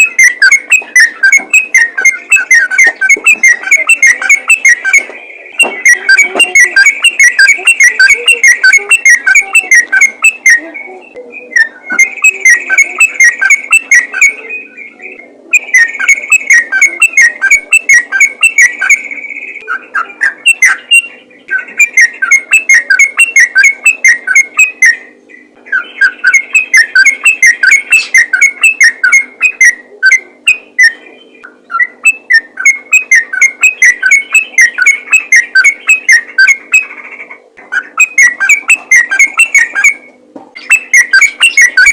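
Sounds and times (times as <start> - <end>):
bird singing bubbly whistles: 0.0 - 37.0, 37.8 - 41.9.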